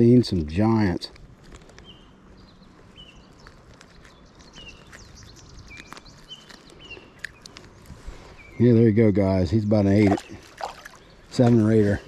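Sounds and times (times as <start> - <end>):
faint outdoor background noise: 0.0 - 12.0
bird chirping: 1.8 - 11.8.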